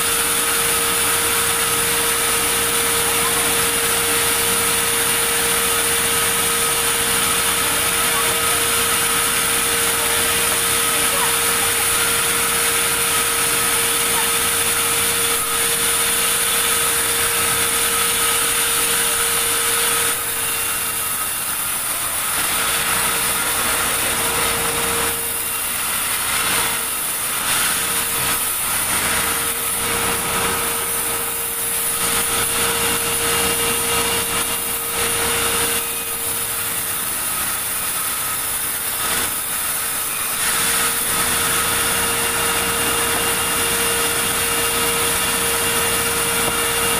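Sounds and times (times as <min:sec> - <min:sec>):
sawmill saw humming: 0:00.0 - 0:46.9.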